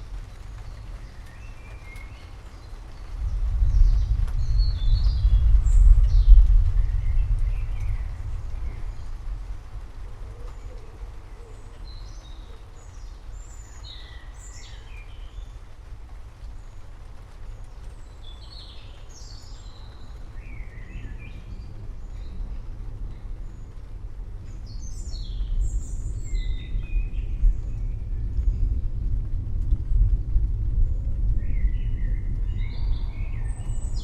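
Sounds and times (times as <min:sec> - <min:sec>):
small birds chirping: 0:00.0 - 0:29.0, 0:29.7 - 0:34.0
distant thunder rumbling: 0:00.0 - 0:34.0.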